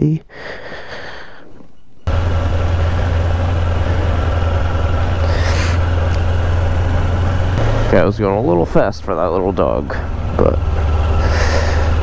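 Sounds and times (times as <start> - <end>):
motorcycle engine running: 2.0 - 12.0.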